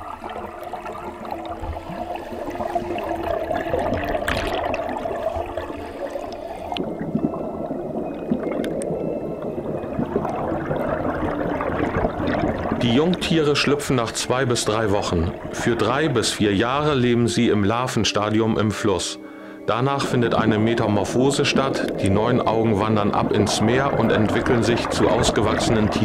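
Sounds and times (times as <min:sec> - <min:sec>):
stream water gurgling: 0:00.0 - 0:17.3, 0:19.7 - 0:26.0.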